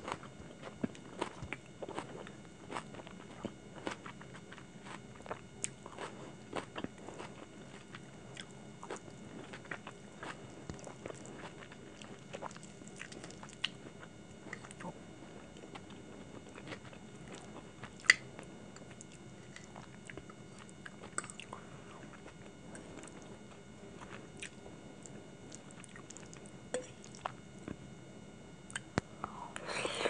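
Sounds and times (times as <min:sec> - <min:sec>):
chewing noodles: 0:00.0 - 0:27.8.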